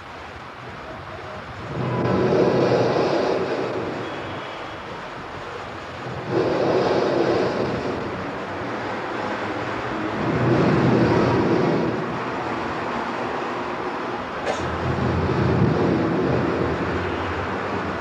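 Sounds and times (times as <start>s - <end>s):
old recording rushing noise: 0.0s - 18.0s.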